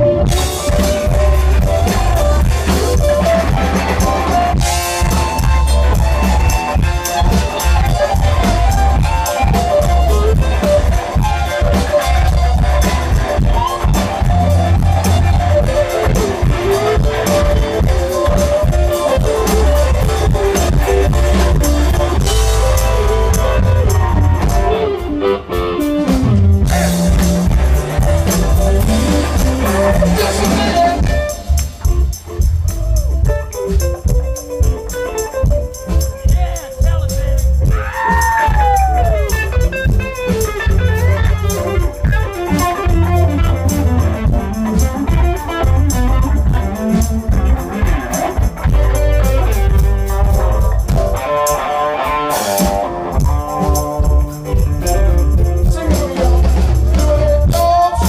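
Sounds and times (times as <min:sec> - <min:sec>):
live rock band playing: 0:00.0 - 0:58.0
melodic lead guitar line: 0:00.0 - 0:58.0.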